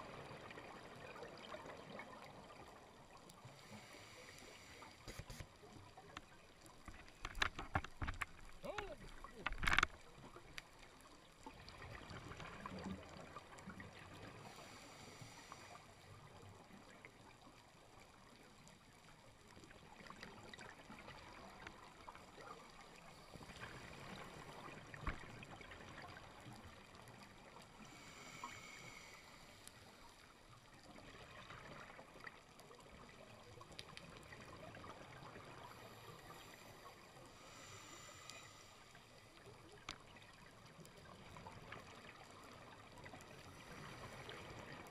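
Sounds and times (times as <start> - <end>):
low underwater hiss: 0.0 - 44.9.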